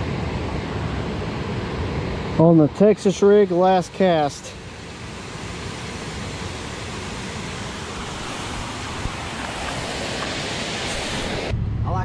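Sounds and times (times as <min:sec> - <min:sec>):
creek current rushing: 0:00.0 - 0:11.5.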